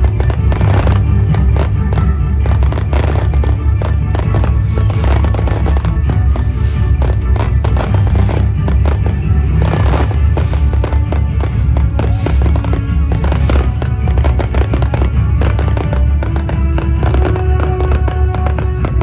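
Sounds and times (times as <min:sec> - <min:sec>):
fireworks bangs and crackling: 0:00.0 - 0:19.0
heavy low rumble: 0:00.0 - 0:19.0
music playing: 0:00.0 - 0:19.0.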